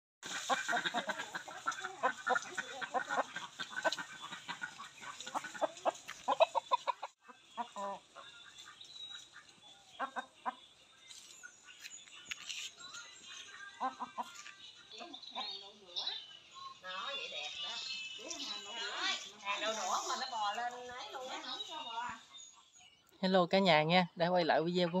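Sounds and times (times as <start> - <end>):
chickens clucking: 0.2 - 22.8, 24.3 - 25.0.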